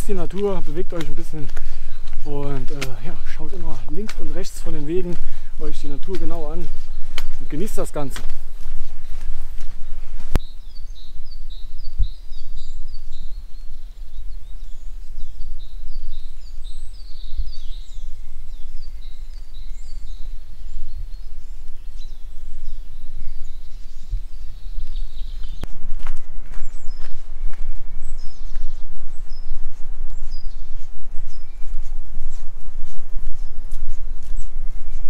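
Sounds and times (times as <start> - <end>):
small songbirds chirping: 0.0 - 35.0
steady low rumble: 0.0 - 35.0.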